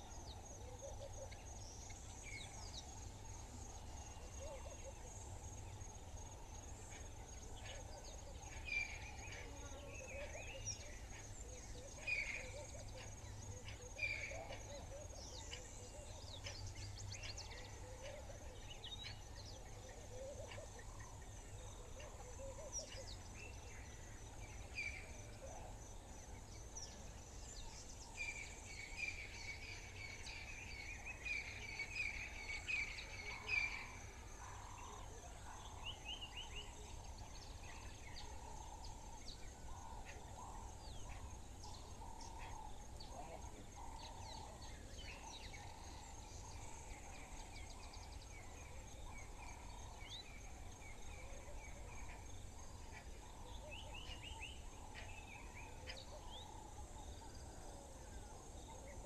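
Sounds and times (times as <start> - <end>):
wild birds calling and chirping: 0.0 - 59.0.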